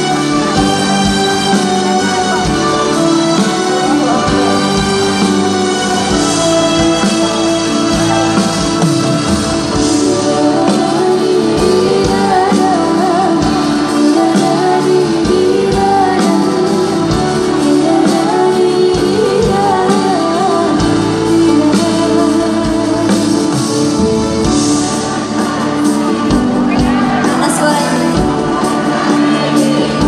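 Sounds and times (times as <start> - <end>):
live pop band: 0.0 - 30.0
woman singing: 0.0 - 30.0.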